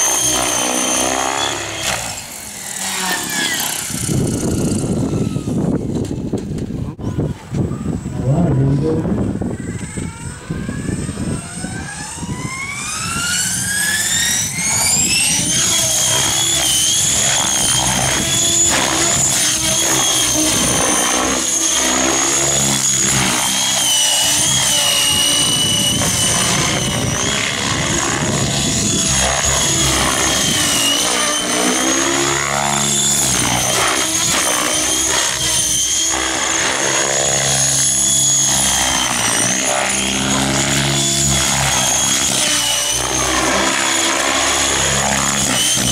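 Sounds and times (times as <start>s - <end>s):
electric motor whine: 0.0s - 6.7s, 7.7s - 45.9s
rotor blades whirring: 0.0s - 6.8s, 7.9s - 45.9s.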